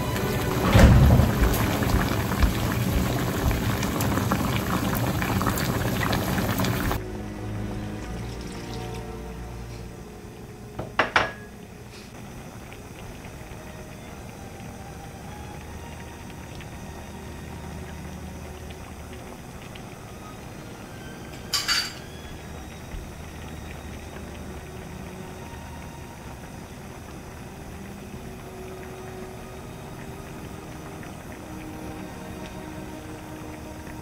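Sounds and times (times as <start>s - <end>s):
stew bubbling in a pan: 0.0s - 34.0s.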